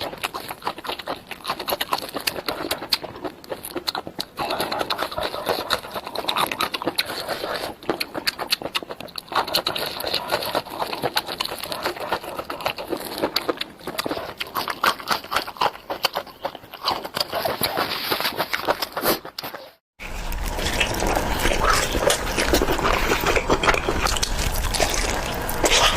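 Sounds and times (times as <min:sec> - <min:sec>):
wet chewing: 0:00.0 - 0:25.9.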